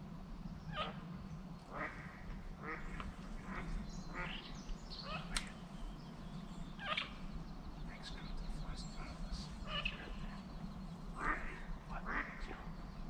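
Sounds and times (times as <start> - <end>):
ducks calling: 0.7 - 13.0.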